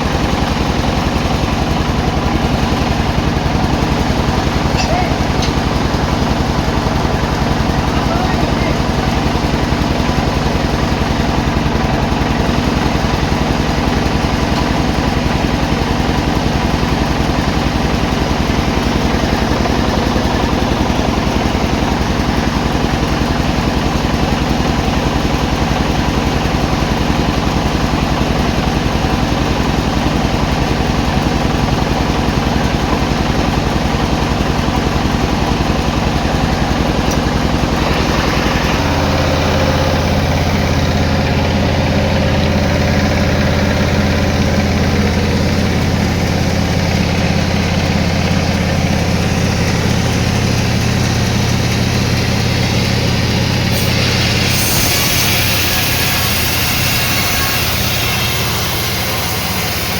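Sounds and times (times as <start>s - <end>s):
sawmill engine droning: 0.0s - 59.9s.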